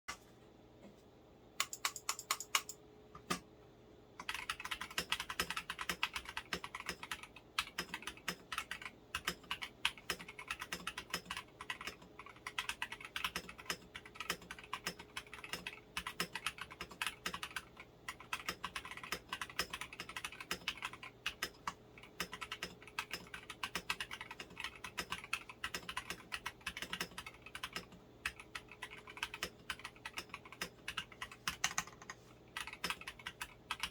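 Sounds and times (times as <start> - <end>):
mechanical keyboard typing: 1.6 - 3.4, 4.2 - 33.9.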